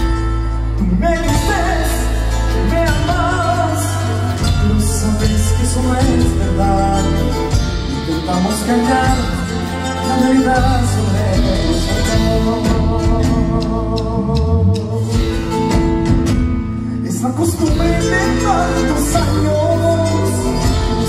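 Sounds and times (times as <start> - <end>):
guitars: 0.0 - 21.0
steady bass: 0.0 - 21.0.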